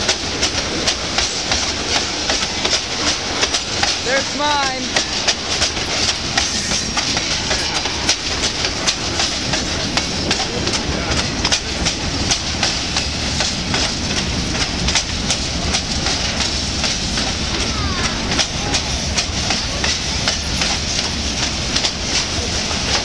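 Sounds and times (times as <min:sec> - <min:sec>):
steel wheels rumbling on rail: 0:00.0 - 0:23.0
wheels clicking over rail joints: 0:00.0 - 0:23.0.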